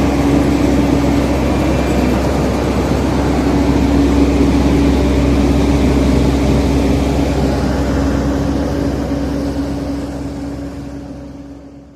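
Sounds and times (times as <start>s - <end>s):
heavy diesel engine running: 0.0s - 11.9s.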